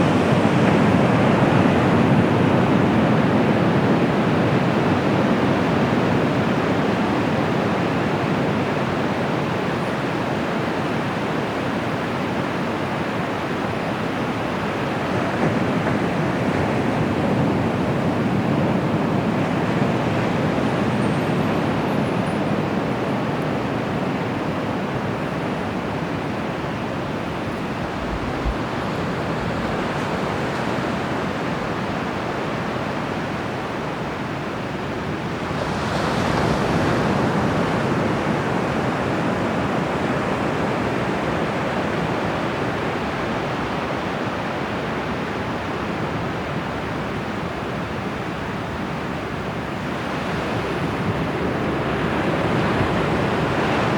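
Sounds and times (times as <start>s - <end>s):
waves washing onto beach: 0.0s - 53.9s.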